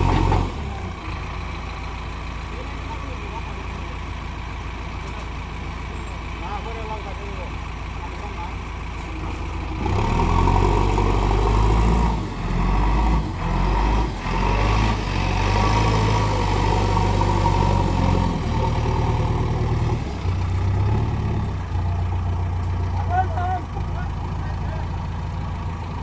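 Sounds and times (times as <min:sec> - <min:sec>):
diesel engine under load: 0:00.0 - 0:26.0.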